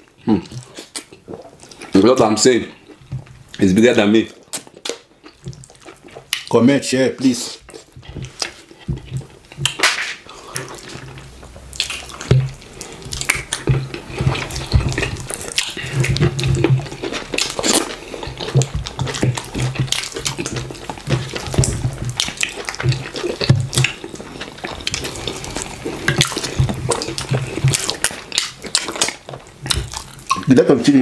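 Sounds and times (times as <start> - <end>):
mouth smacks and chewing: 0.0 - 2.0, 4.3 - 6.5, 7.5 - 30.5.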